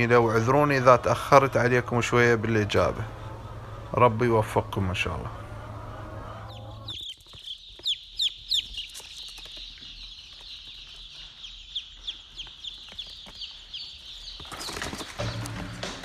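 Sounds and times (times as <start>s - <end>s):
chickens peeping: 0.0s - 16.0s.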